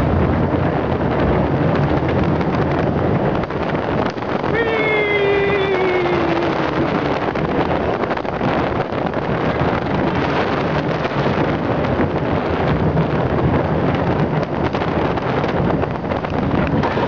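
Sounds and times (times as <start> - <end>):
ride car rumbling along track: 0.0 - 17.0
wind buffeting microphone: 0.0 - 17.0.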